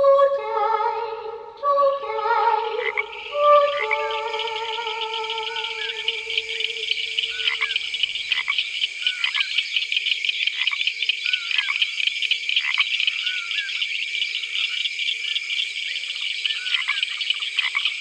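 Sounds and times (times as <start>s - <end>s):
insects trilling: 1.7s - 18.0s
frog-like chirping calls: 2.3s - 18.0s.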